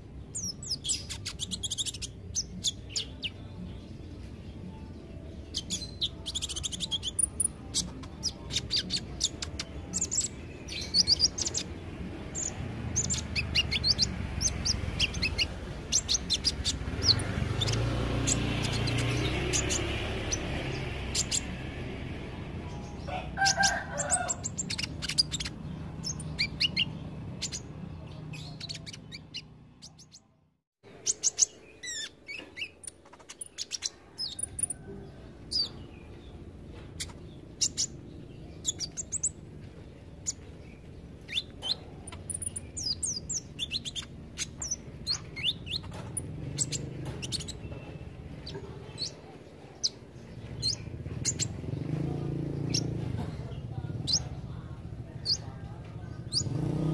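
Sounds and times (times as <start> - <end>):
sunbird chirps and trills: 0.0 - 30.3, 30.9 - 56.9.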